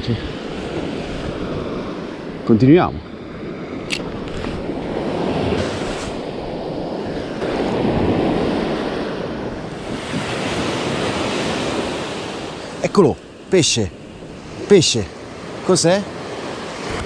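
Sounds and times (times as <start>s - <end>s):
wind on microphone: 0.0s - 12.8s, 13.9s - 17.0s
waves breaking on beach: 0.0s - 17.0s.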